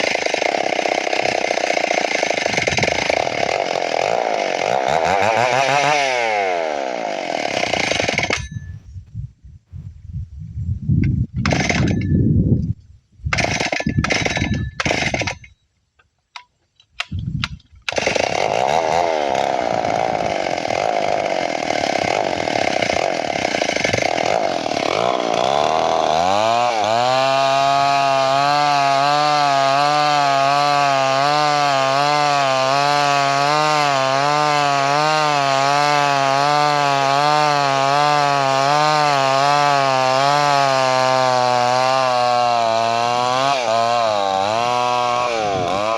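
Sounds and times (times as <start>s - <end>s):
chainsaw cutting wood: 0.0s - 8.6s, 11.4s - 12.1s, 13.3s - 15.6s, 17.0s - 45.9s.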